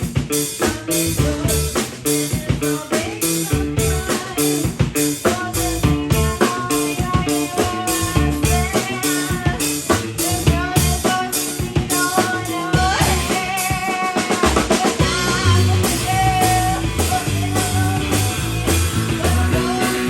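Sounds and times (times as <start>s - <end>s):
band music: 0.0s - 20.0s
drum kit beat: 0.0s - 20.0s.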